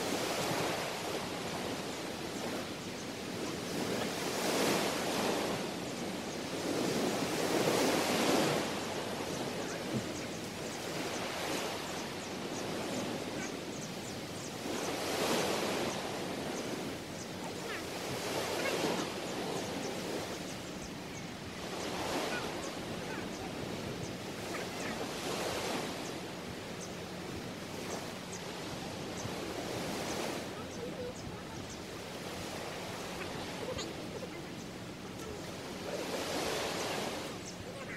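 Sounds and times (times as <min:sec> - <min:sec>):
waves washing onto sandy beach: 0:00.0 - 0:37.9.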